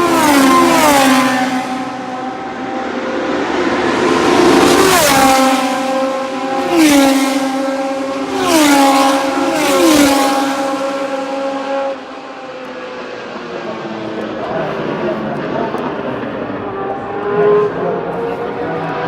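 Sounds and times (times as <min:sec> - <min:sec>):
racing cars passing at speed: 0:00.0 - 0:19.0.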